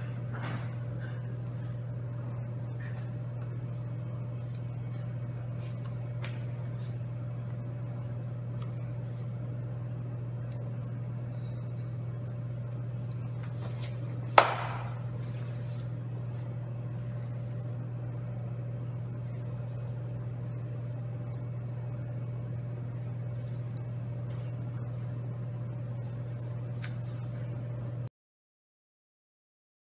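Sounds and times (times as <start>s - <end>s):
low room hum: 0.0s - 28.1s.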